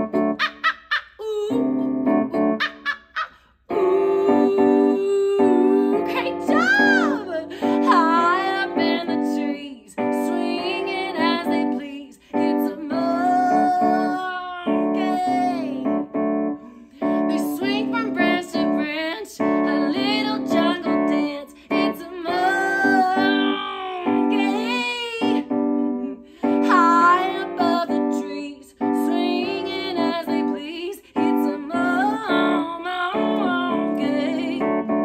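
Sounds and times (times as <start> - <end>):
piano chords: 0.0 - 0.8, 1.4 - 3.0, 3.7 - 35.0
woman singing: 1.2 - 2.8, 3.7 - 16.0, 16.6 - 35.0.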